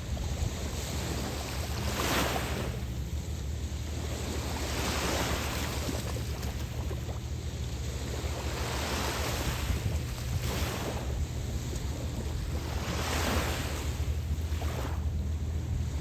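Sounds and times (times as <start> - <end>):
small waves breaking on beach: 0.0 - 16.0
wind rumble on microphone: 0.0 - 16.0.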